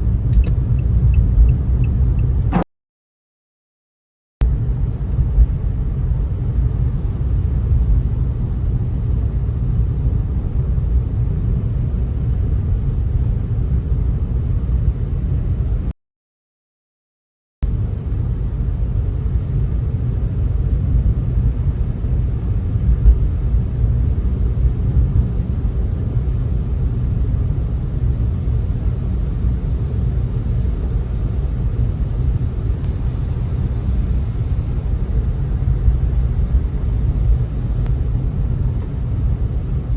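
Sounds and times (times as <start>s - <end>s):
road and tyre rumble: 0.0s - 2.7s, 4.4s - 15.9s, 17.6s - 39.9s.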